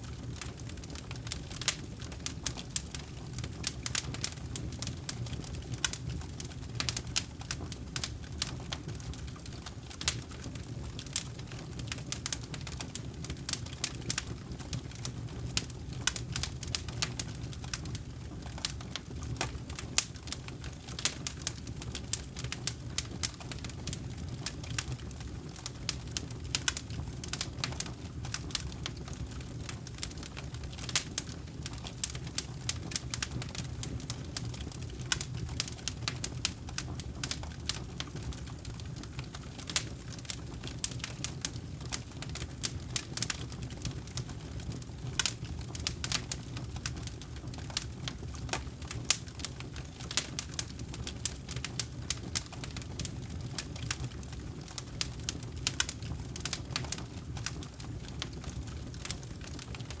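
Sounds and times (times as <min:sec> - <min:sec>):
low rumble of flames: 0:00.0 - 1:00.0
wood crackling and popping: 0:00.0 - 1:00.0.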